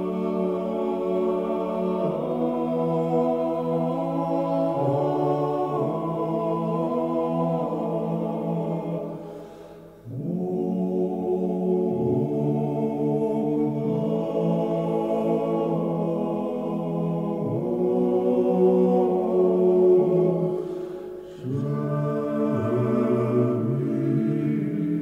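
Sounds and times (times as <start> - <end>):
voices chanting low notes: 0.0 - 25.0.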